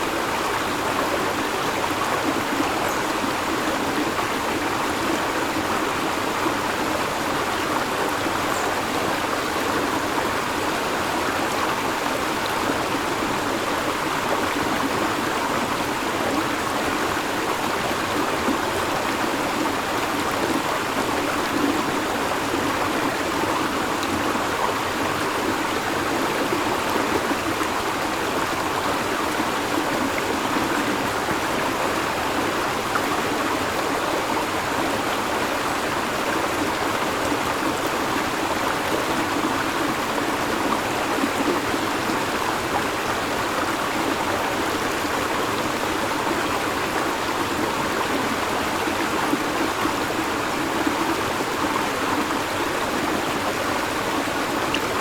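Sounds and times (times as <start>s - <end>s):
river water babbling: 0.0s - 55.0s.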